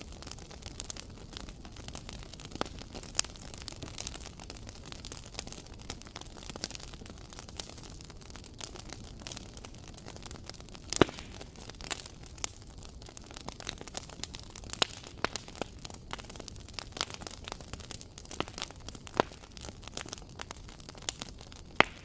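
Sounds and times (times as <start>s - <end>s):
fire crackling in a fireplace: 0.0s - 22.0s.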